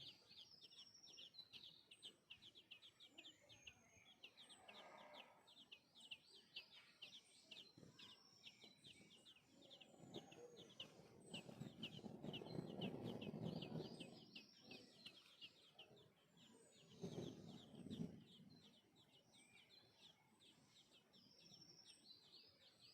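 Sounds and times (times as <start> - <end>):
nestling birds begging chirps: 0.0 - 22.9.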